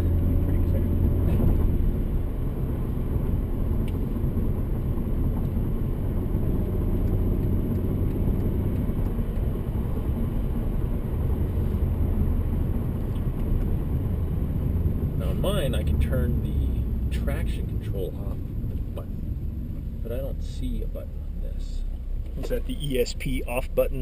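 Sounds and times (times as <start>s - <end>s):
car engine drone: 0.0s - 24.0s
tyre and road noise: 0.0s - 24.0s.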